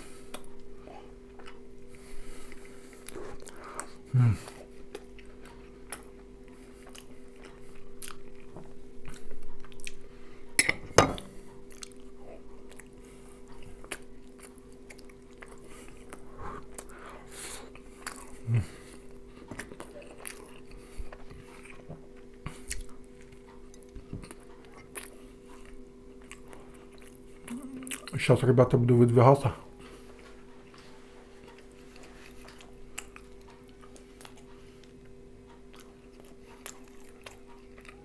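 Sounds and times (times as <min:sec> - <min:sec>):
steady low hum: 0:00.0 - 0:38.0
chewing and lip smacks: 0:00.3 - 0:10.1, 0:11.6 - 0:17.0, 0:17.6 - 0:28.2, 0:30.2 - 0:38.0.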